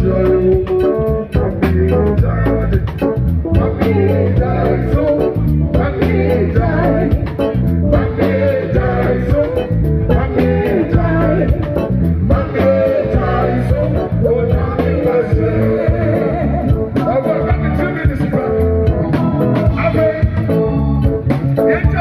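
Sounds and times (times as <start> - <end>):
man singing into a microphone: 0.0 - 20.8, 21.6 - 22.0
bass line: 0.0 - 22.0
drum kit beat: 0.0 - 22.0.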